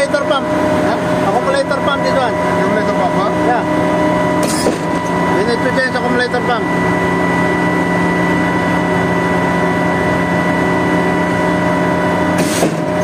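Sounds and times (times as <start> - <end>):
pump truck engine whining: 0.0 - 13.0.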